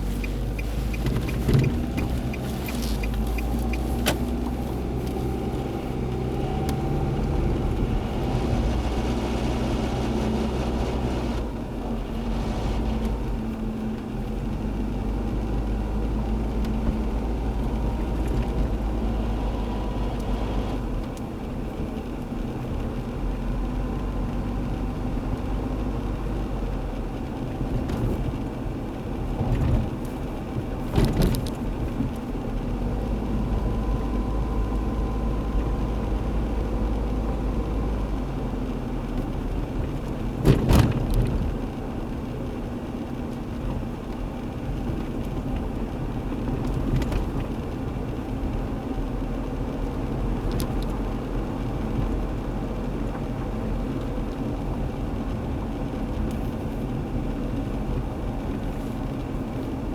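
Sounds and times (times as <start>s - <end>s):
car engine droning: 0.0s - 59.9s
engine clatter: 0.0s - 59.9s.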